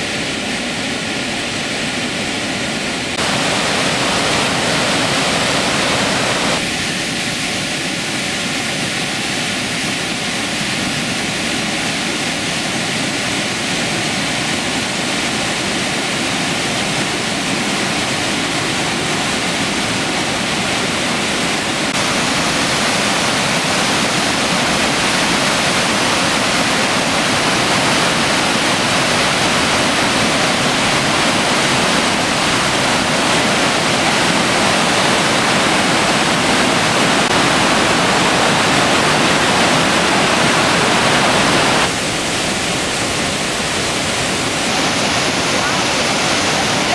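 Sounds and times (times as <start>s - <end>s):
water pounding over rocks: 3.1s - 46.9s.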